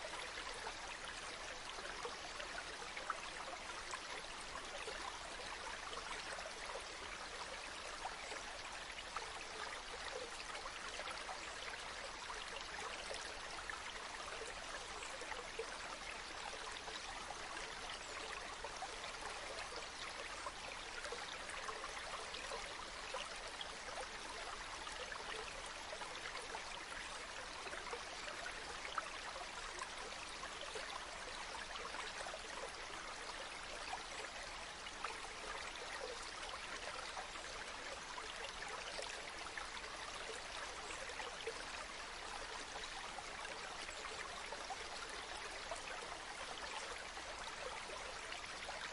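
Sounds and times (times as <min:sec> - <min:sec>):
stream running and splashing: 0:00.0 - 0:48.9.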